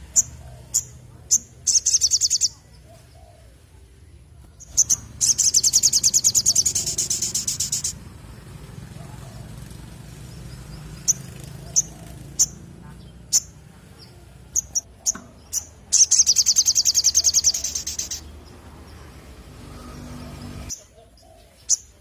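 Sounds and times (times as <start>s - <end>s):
bird chirping: 0.0s - 3.8s, 4.4s - 22.0s.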